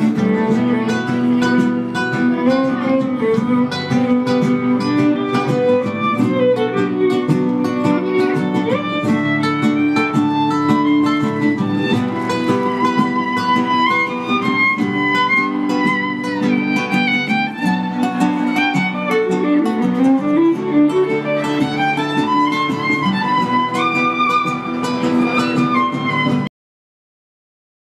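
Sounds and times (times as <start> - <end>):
acoustic guitars plucking and strumming: 0.0 - 26.5
violin: 0.0 - 26.5.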